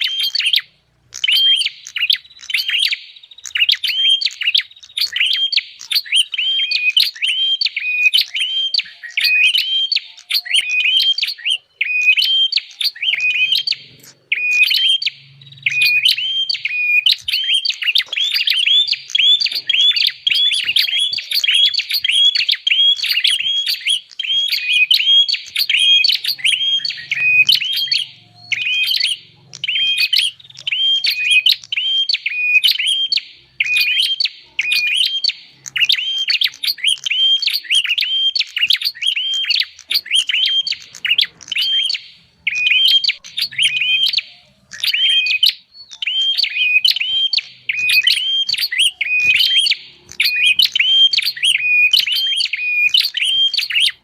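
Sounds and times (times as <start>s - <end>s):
bird chirping high notes: 0.0s - 54.0s.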